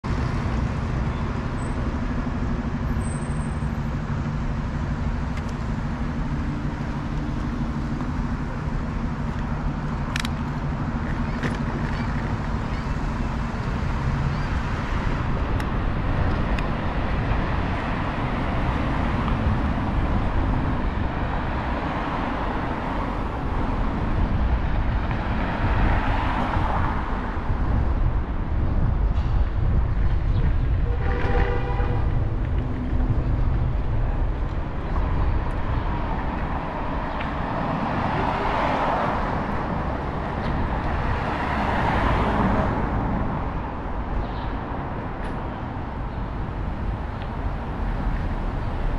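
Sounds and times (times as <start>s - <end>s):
cars passing on road: 0.0s - 48.9s.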